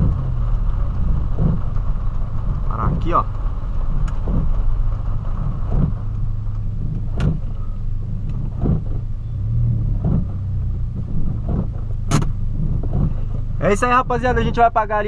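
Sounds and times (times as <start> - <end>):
car engine humming: 0.0 - 15.0
windscreen wipers knocking: 0.0 - 15.0.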